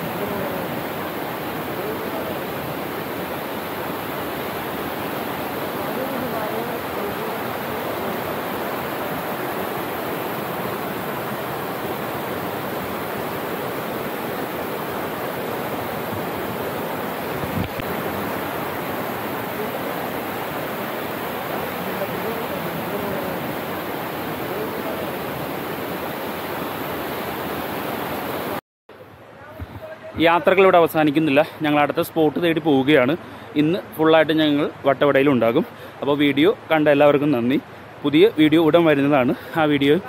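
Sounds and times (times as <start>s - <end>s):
waterfall rushing water: 0.0s - 28.6s, 29.2s - 40.0s.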